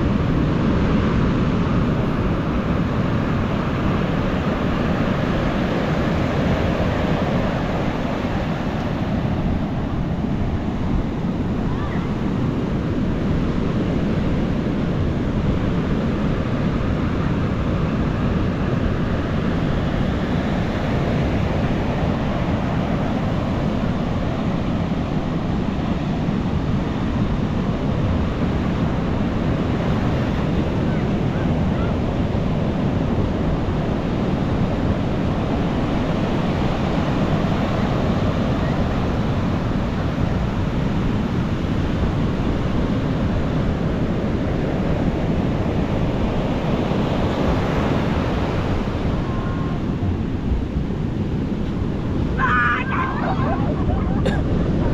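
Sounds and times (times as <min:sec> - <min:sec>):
waves breaking on a beach: 0:00.0 - 0:54.9
wind buffeting microphone: 0:00.0 - 0:54.9.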